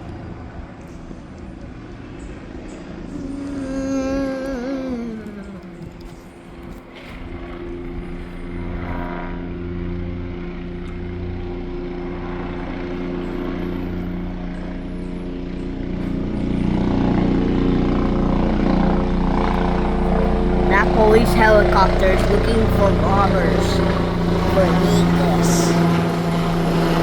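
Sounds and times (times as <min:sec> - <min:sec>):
helicopter rotor drone: 0:00.0 - 0:27.0.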